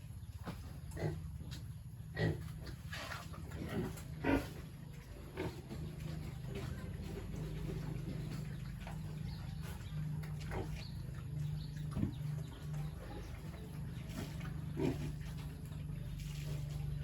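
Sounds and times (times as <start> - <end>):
pigs grunting: 0.4 - 17.0.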